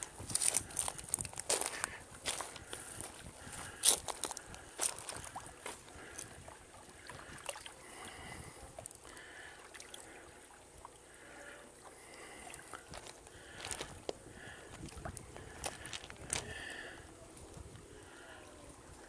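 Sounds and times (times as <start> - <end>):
small waves lapping: 0.0 - 19.0.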